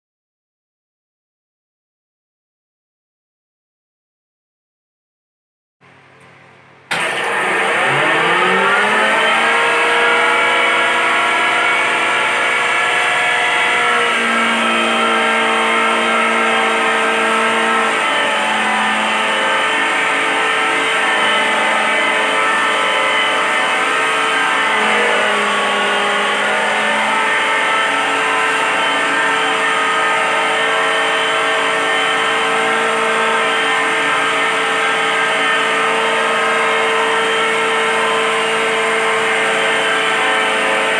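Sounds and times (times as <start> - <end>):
grinding machine whine and hum: 5.9 - 40.9.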